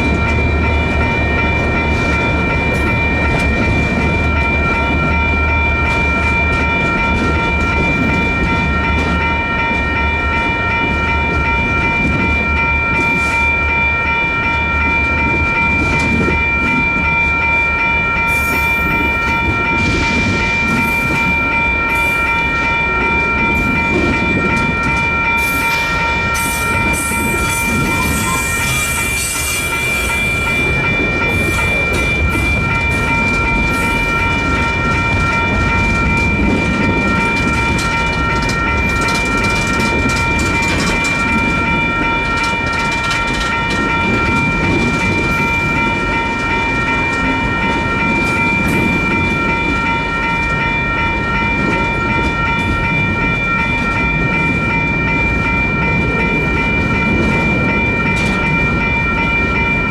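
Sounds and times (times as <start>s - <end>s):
crossing bells ringing: 0.0s - 59.9s
train wheels clacking on rails: 0.0s - 59.9s.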